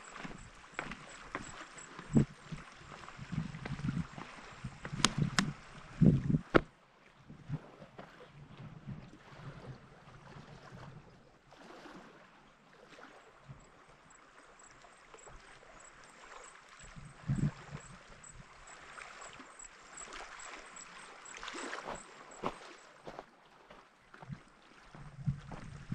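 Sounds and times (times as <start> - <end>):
small waves lapping against rocks: 0.0 - 25.9.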